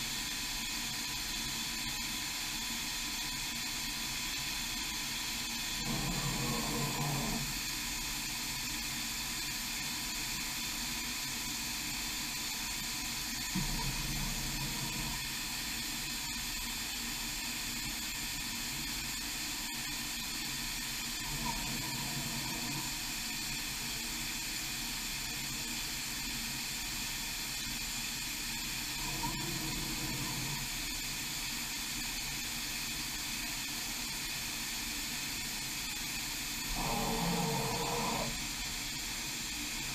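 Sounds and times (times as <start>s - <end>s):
machine steady hiss: 0.0s - 39.9s.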